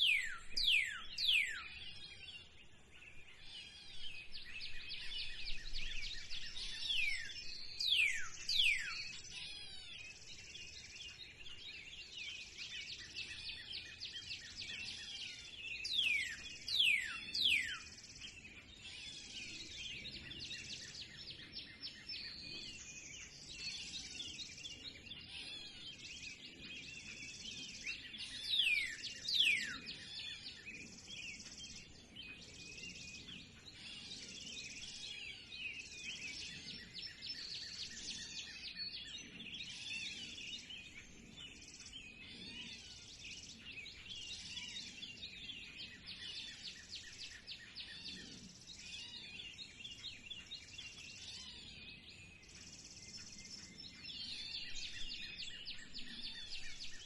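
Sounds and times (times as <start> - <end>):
birds chirping chorus: 0.0 - 57.0.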